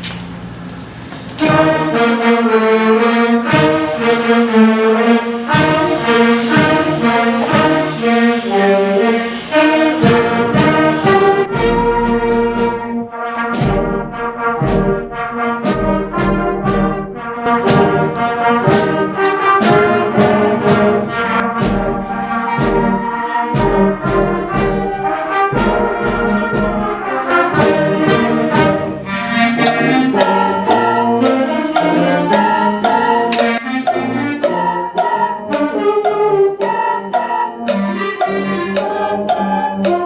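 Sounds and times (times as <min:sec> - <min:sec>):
concert band playing: 0:01.4 - 0:40.0
sharp percussion strikes: 0:01.4 - 0:40.0.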